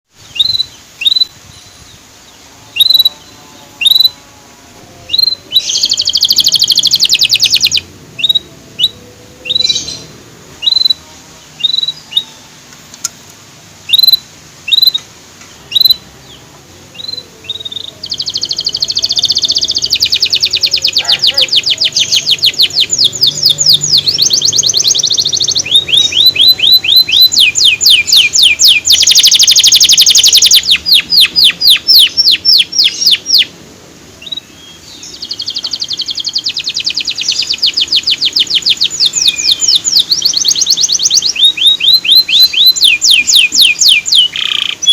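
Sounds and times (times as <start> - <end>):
canary chirps: 0.1 - 4.3, 4.9 - 12.7, 13.8 - 33.6, 34.2 - 44.9
canary fast trills: 2.0 - 12.6, 13.8 - 33.5, 34.2 - 44.9.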